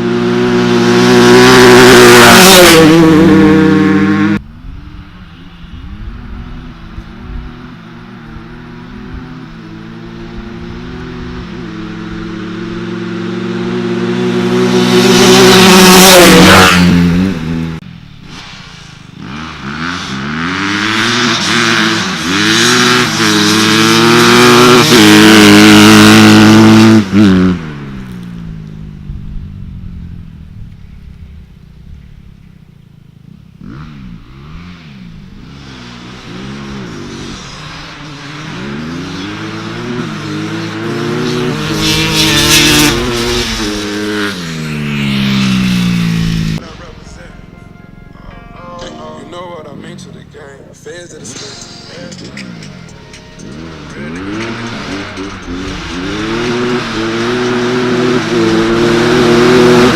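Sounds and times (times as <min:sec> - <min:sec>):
dirt bike engines revving: 0:00.0 - 0:48.0, 0:49.7 - 0:59.9.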